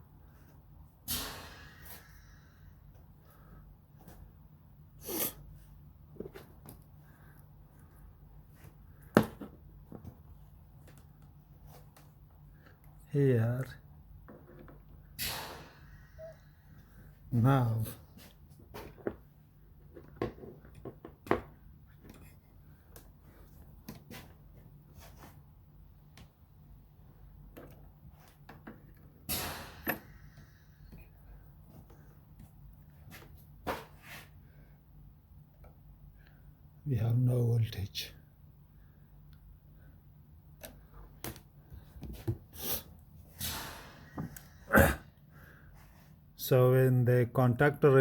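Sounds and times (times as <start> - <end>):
low steady hum: 1.7 - 48.0.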